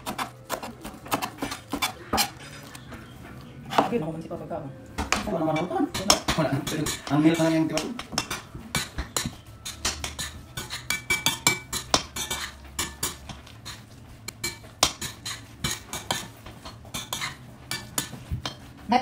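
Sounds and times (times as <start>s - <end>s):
dishes and utensils clinking: 1.1s - 4.1s, 5.0s - 18.9s.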